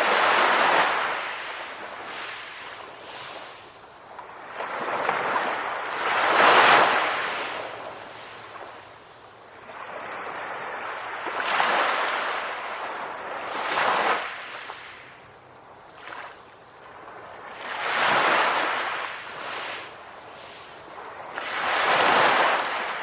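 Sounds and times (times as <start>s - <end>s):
ocean waves breaking on shore: 0.0s - 23.0s.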